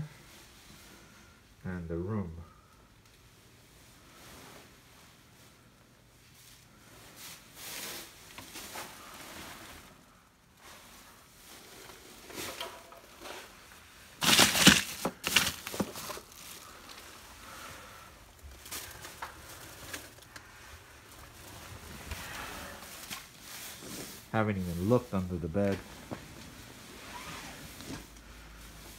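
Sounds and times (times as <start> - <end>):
plastic bags rustling and crinkling: 3.2 - 28.9.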